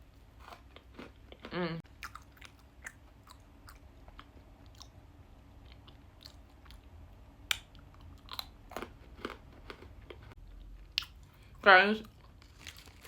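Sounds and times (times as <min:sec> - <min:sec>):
person chewing crunchy biscuit: 0:00.0 - 0:13.0.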